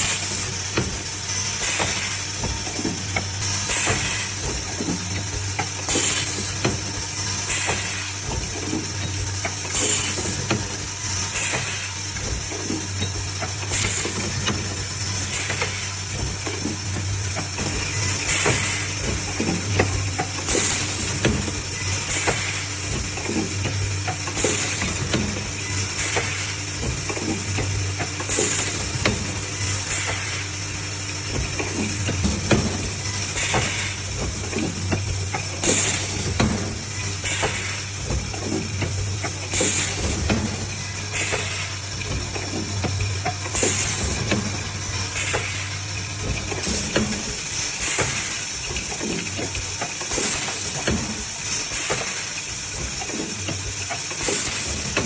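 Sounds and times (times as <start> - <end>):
welding machine hum: 0.0 - 55.0.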